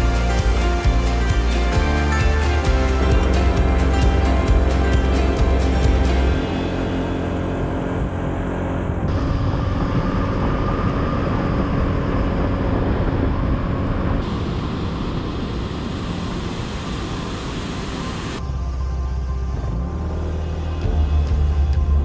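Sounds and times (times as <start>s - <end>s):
motorcycle engine running: 0.0s - 18.4s
road and wind noise: 0.0s - 22.0s.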